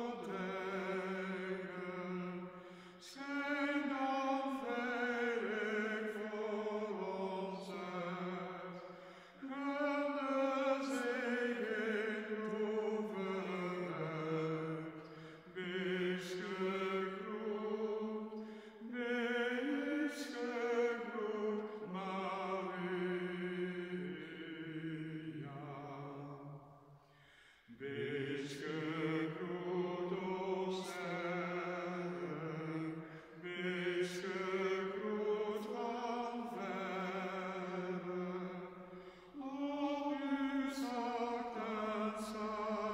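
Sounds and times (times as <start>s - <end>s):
person singing a chant: 0.0s - 26.6s, 27.7s - 42.9s.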